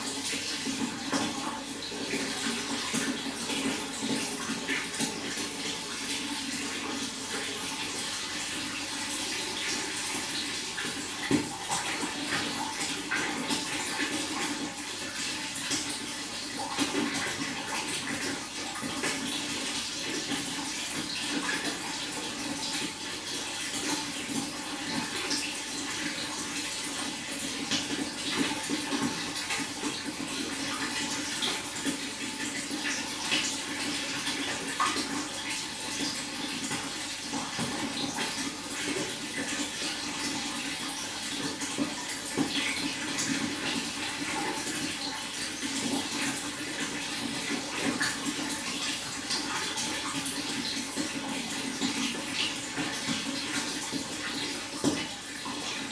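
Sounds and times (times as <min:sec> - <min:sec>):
running water splashing: 0:00.0 - 0:55.9.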